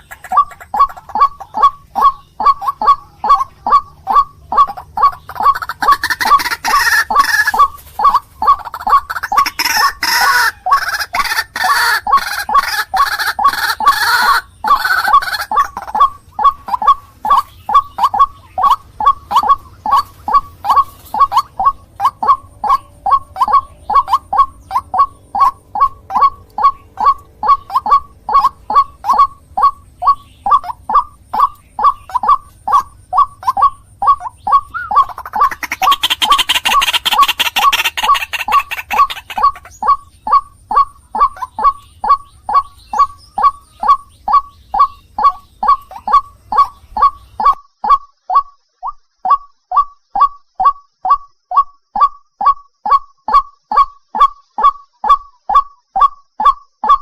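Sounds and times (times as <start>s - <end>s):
waterhen croaking calls: 0.0s - 57.0s.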